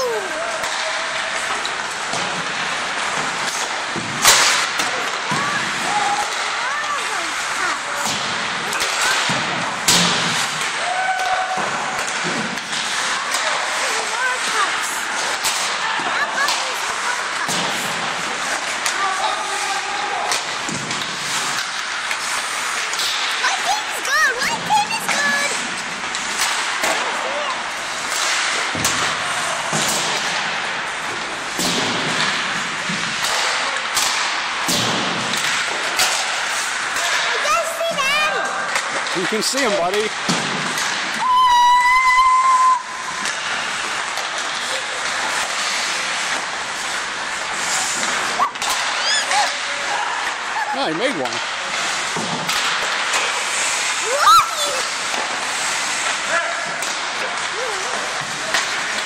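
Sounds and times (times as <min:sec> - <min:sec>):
clicks of sticks and pucks: 0:00.0 - 0:59.0
skates scraping on ice: 0:00.0 - 0:59.0
hockey puck shot crack: 0:00.4 - 0:37.5, 0:38.7 - 0:50.6, 0:51.2 - 0:59.0.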